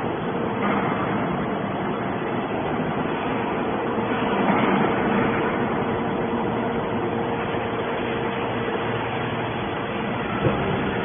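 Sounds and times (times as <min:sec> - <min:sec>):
machine drone with whine: 0:00.0 - 0:11.0.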